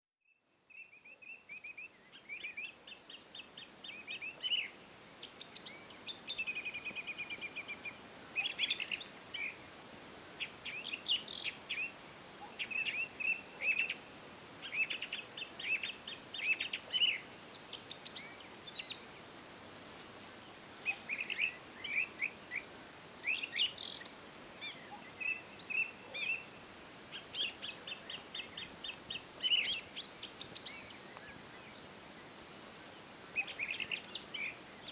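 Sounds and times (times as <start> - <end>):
faint outdoor hiss: 0.2 - 34.9
songbirds chirping and trilling: 0.7 - 19.5, 20.2 - 34.9.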